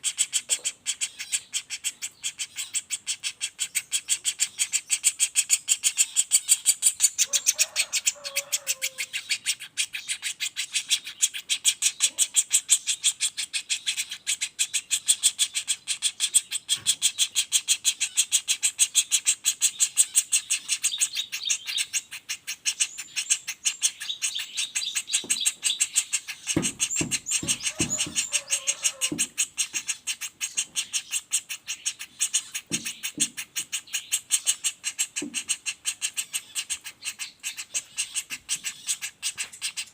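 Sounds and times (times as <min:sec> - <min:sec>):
woodpecker calling in fast roll: 0:00.0 - 0:39.9.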